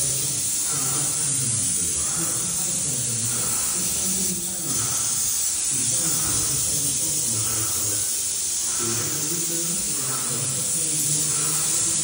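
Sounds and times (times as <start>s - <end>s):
paint spray gun hissing: 0.0s - 12.0s.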